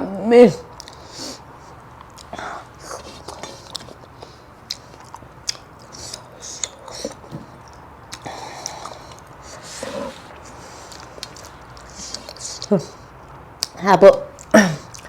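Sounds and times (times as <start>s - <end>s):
mouth clicks and smacks: 0.7s - 1.0s, 1.8s - 15.0s
person chewing and biting food: 0.7s - 1.1s, 1.7s - 13.8s.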